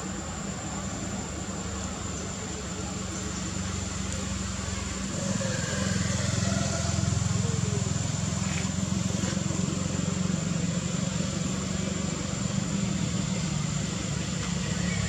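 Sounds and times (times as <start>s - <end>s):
engine rumbling steadily: 0.0s - 15.0s.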